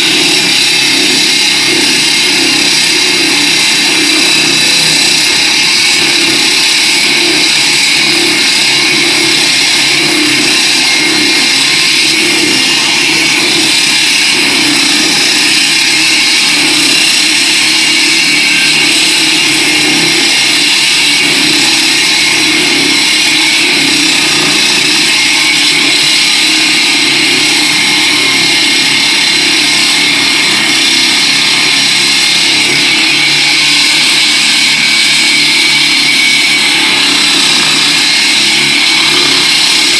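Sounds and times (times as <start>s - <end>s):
concrete saw cutting with high whine: 0.0s - 39.9s.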